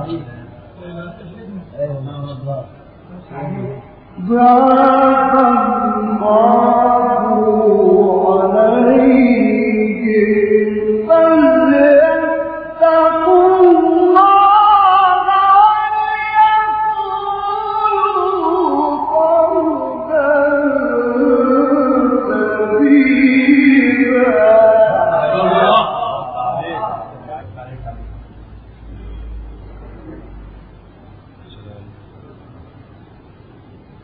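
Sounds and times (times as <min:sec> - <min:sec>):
man reciting melodically: 0:00.0 - 0:28.1.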